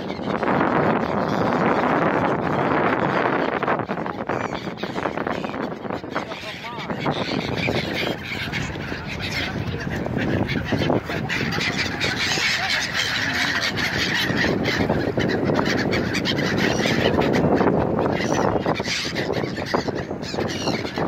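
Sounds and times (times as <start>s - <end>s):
flock of gulls calling: 0.0s - 21.0s.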